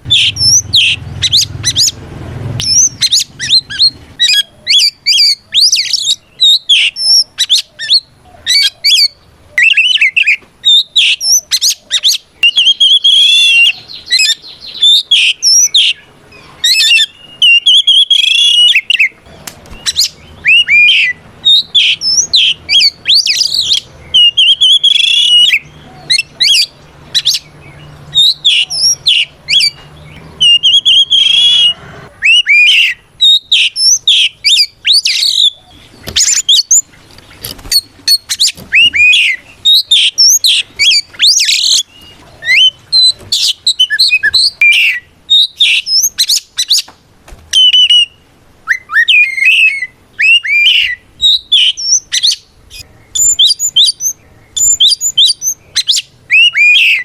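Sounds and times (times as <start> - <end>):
bird song of whistles and trills: 0.0 - 46.9, 47.5 - 57.0.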